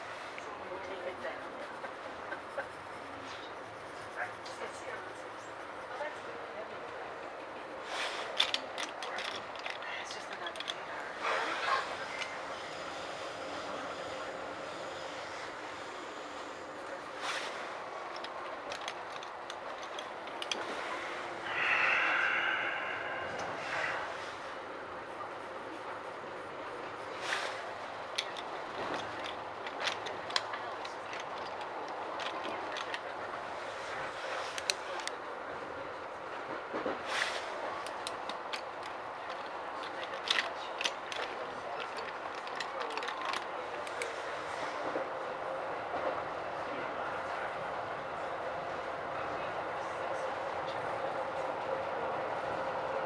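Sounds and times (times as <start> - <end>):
train car running noise: 0.0 - 53.0.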